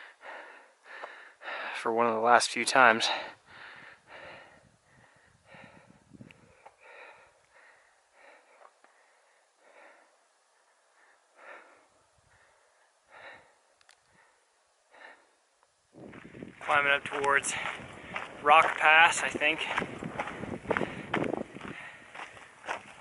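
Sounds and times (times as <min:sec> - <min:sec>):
heavy breathing: 0:00.0 - 0:01.8, 0:03.0 - 0:15.4, 0:17.4 - 0:18.4, 0:19.6 - 0:22.8.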